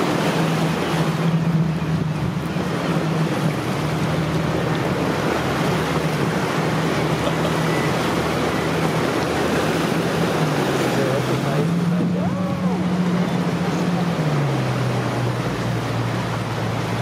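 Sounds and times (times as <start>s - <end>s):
boat engine running: 0.0s - 17.0s
churning water: 0.0s - 17.0s
wind: 0.0s - 17.0s.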